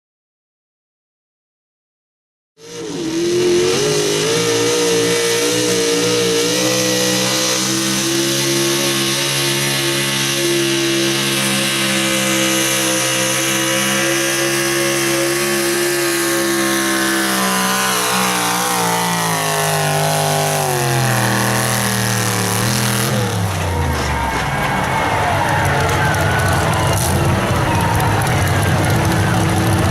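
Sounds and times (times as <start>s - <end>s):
truck engine at high revs: 2.6s - 29.9s.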